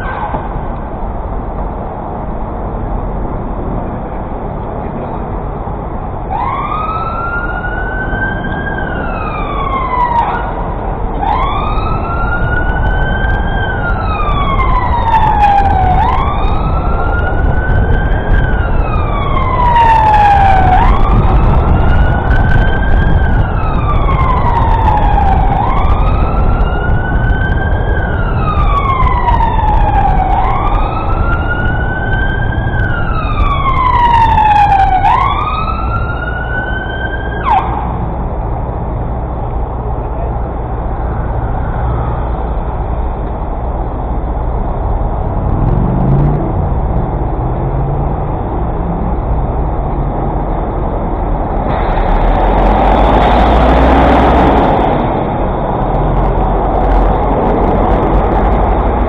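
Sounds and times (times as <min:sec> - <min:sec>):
traffic noise: 0:00.0 - 0:59.0
emergency siren wailing: 0:06.0 - 0:59.0.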